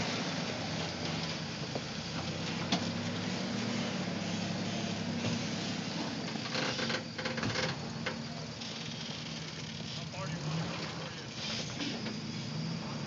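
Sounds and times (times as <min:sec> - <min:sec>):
buggy engine running at low revs: 0:00.0 - 0:13.0.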